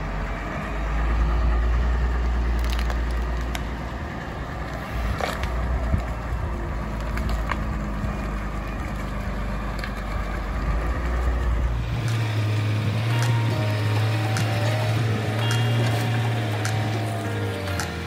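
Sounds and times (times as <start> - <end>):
wheel loader diesel engine: 0.0 - 18.0.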